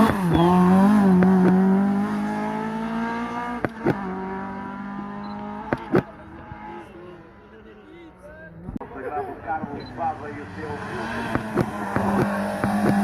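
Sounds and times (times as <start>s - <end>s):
car engine accelerating: 0.0s - 7.6s, 9.5s - 13.0s.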